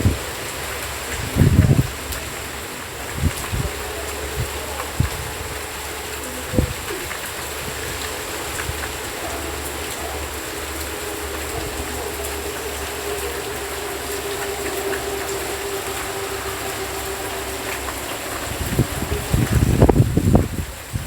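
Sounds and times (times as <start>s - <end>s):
faint steady drone: 0.0s - 20.8s
steady rain falling: 0.0s - 21.0s.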